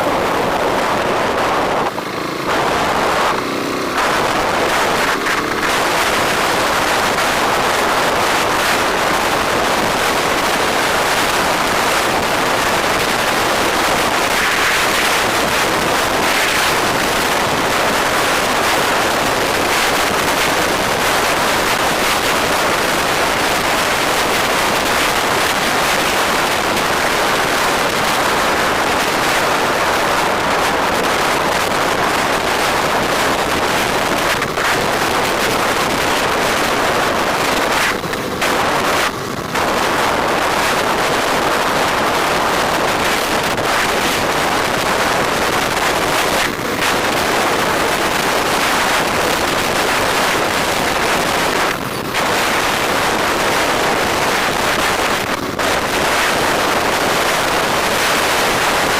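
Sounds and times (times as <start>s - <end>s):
motorbike engine: 0.0s - 58.7s
wind noise on microphone: 0.0s - 58.9s.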